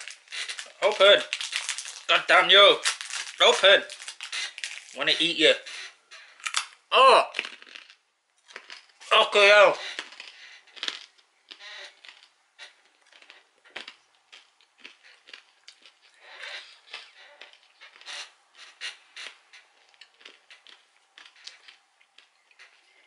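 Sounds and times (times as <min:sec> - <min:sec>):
crunchy snack chewing: 0:00.0 - 0:23.0.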